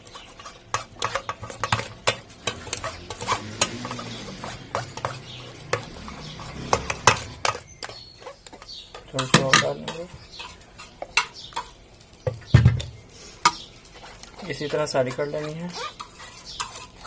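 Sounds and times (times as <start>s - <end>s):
spoon scraping wire-mesh strainer: 0.0s - 11.7s, 13.9s - 17.0s.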